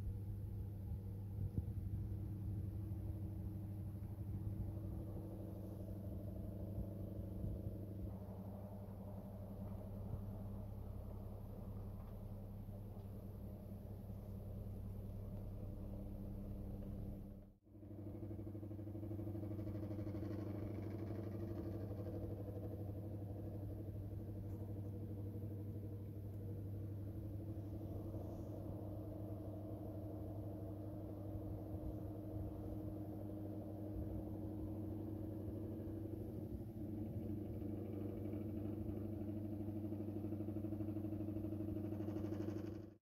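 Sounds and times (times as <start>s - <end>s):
electric fan hum: 0.0s - 43.0s.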